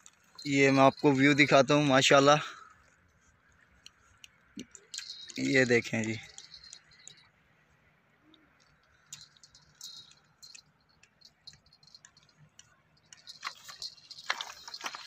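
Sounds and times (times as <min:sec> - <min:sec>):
faint irregular clicks and ticks: 0:00.0 - 0:15.0.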